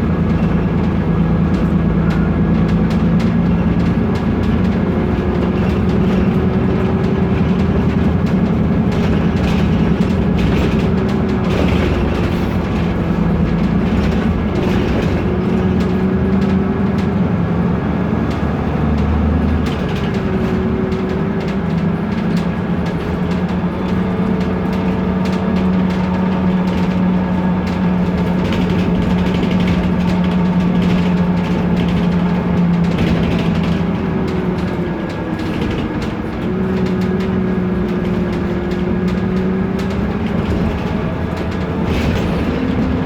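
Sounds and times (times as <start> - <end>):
bus diesel engine droning: 0.0 - 43.0
interior parts rattling: 0.0 - 43.0.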